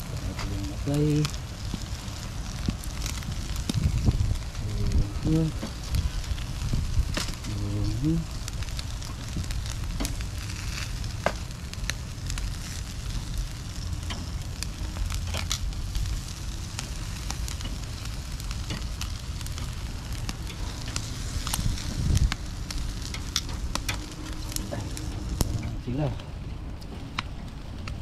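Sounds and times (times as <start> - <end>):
food sizzling on a grill: 0.0 - 26.2
drippings crackling and popping: 0.0 - 28.0.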